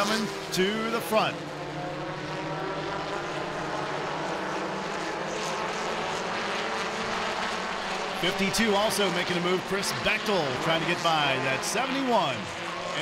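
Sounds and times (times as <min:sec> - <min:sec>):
race truck engines droning: 0:00.0 - 0:13.0.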